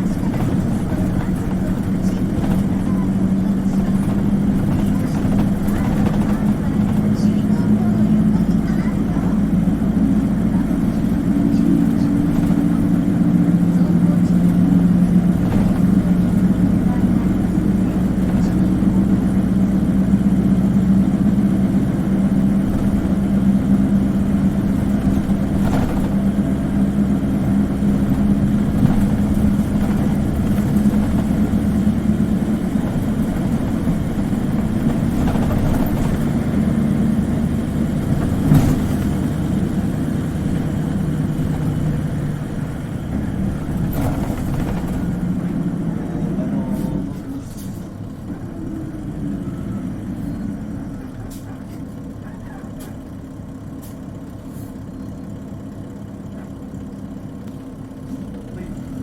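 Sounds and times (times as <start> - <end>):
bus body knocks and rattles: 0.0 - 48.5
bus diesel engine drone: 0.0 - 59.0.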